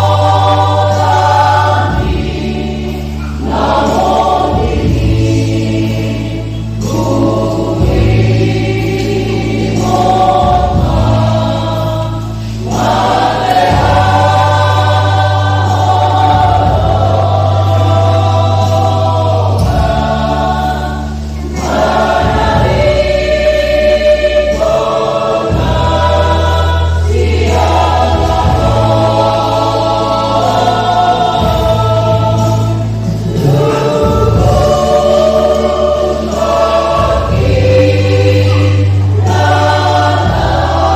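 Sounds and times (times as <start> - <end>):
choir singing a hymn: 0.0 - 40.9
sustained low bass notes: 0.0 - 40.9.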